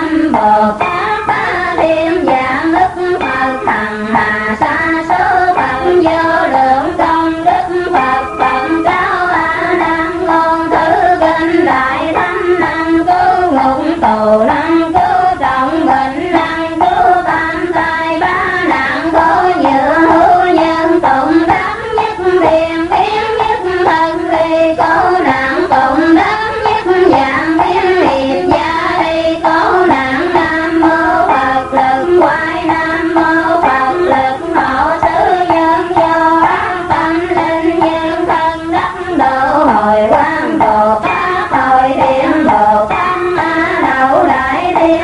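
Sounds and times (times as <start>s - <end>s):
devotional music held notes: 0.0s - 45.0s.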